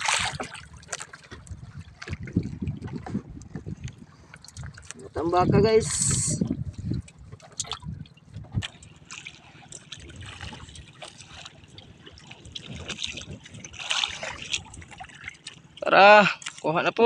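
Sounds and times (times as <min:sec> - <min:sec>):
water lapping against a boat: 0:00.0 - 0:17.0.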